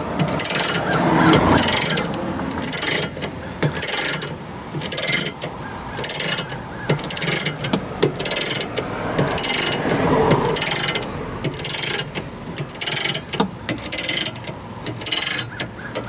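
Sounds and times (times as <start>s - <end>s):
ratchet jack handle clicking: 0.0s - 16.0s.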